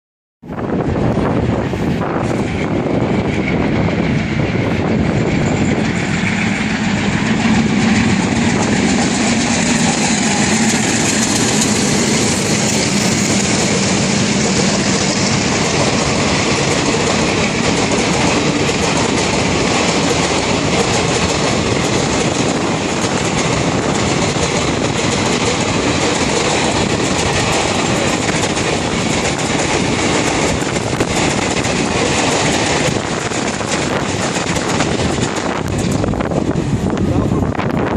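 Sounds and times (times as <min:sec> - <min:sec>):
locomotive engines droning: 0:00.8 - 0:37.9
train wheels clickety-clack: 0:01.1 - 0:37.9.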